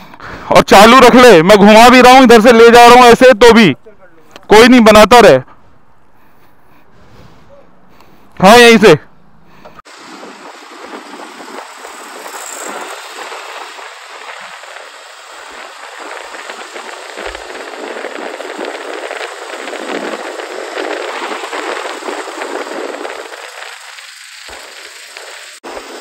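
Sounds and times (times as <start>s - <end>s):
road noise: 0.9s - 26.0s
rushing wind: 4.4s - 26.0s.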